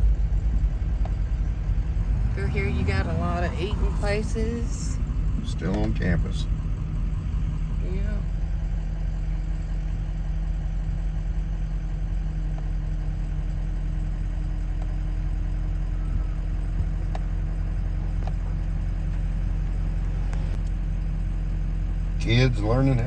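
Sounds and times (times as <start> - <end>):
car engine and road hum: 0.0 - 23.0.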